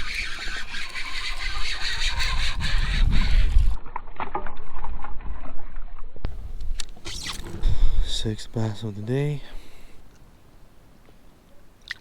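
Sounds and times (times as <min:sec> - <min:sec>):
wind rumbling on microphone: 0:00.0 - 0:09.7.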